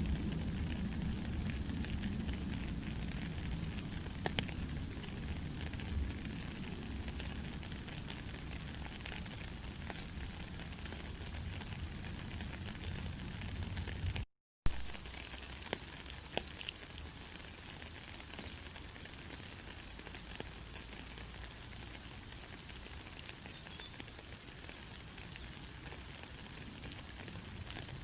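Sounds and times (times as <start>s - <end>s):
faint crackles: 0.0s - 28.0s.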